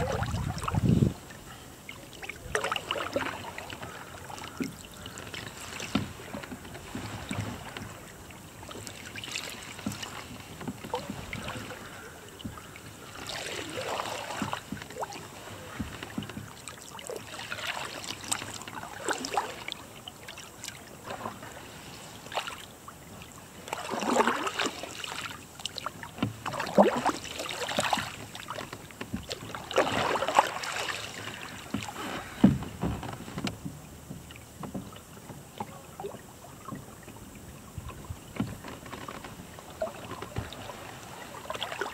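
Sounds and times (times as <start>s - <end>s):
paddle splashing in water: 0.0s - 41.9s.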